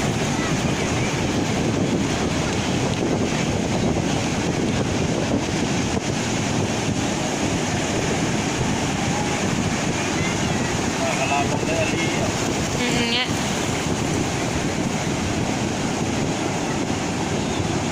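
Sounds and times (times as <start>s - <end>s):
ocean surf: 0.0s - 17.9s
wind buffeting microphone: 0.0s - 17.9s.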